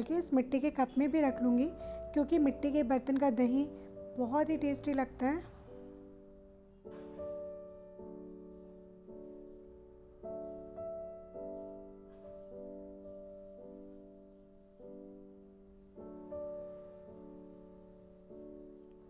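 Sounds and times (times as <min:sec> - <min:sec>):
soft piano chords: 0:00.0 - 0:19.0.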